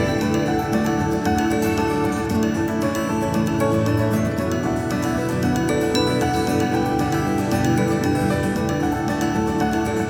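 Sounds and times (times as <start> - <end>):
soft sustained instrumental music: 0.0 - 10.0.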